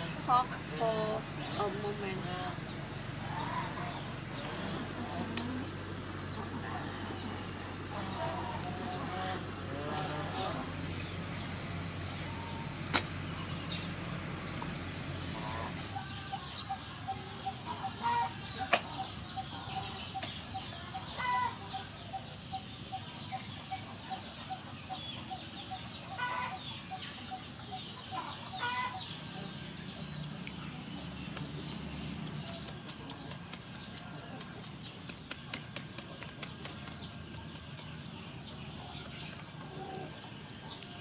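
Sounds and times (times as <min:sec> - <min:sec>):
chickens clucking: 0:00.0 - 0:11.2, 0:14.5 - 0:41.0.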